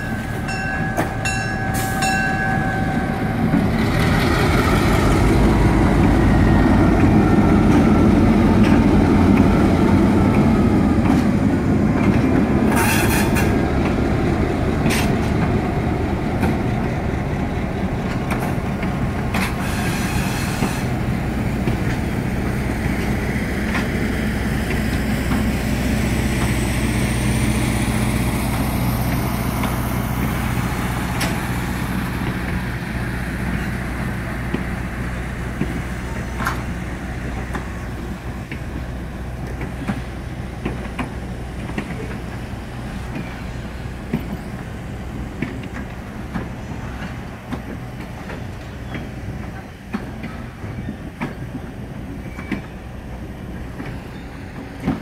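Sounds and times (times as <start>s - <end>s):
diesel locomotive engine rumbling: 0.0s - 55.0s
train wheels clicking on rail joints: 0.0s - 55.0s.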